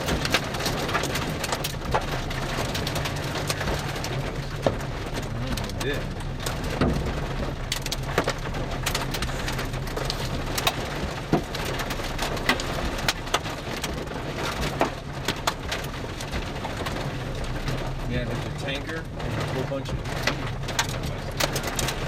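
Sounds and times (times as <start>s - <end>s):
rain on a vehicle: 0.0s - 22.0s.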